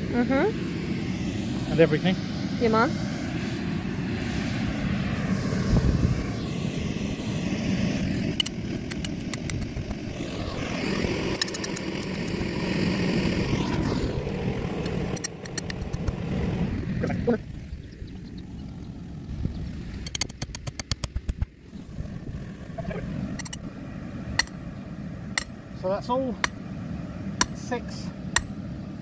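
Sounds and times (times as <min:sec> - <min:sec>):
electric blower fan droning: 0:00.0 - 0:29.0.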